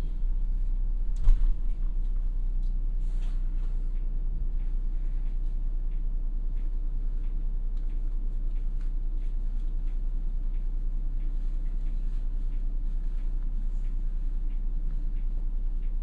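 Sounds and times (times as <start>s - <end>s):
bus engine drone: 0.0s - 16.0s
faint ticks and rattles: 0.0s - 16.0s.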